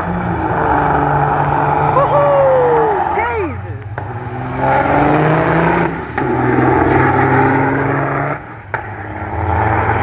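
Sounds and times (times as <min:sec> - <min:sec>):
truck engines at full throttle: 0:00.0 - 0:10.0.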